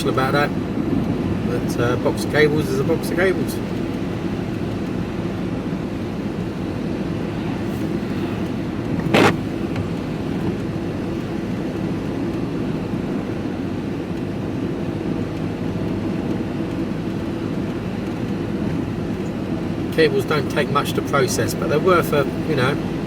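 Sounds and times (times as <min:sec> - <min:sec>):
diesel engine and road noise: 0:00.0 - 0:23.0.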